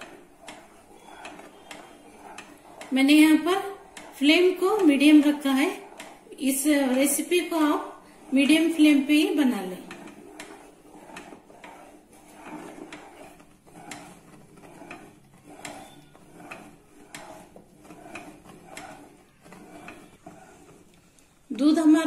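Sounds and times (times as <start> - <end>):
spatula scraping a pan: 0.0 - 21.5.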